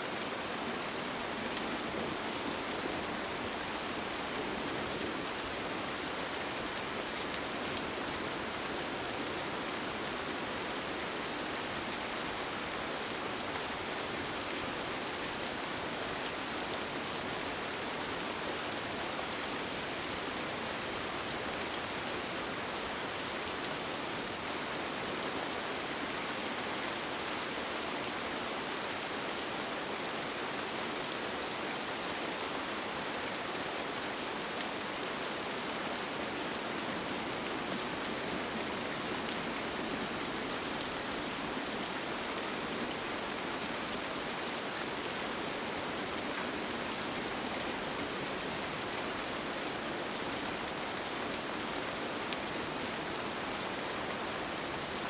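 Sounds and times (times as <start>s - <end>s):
rain falling on a tent: 0.0s - 55.0s.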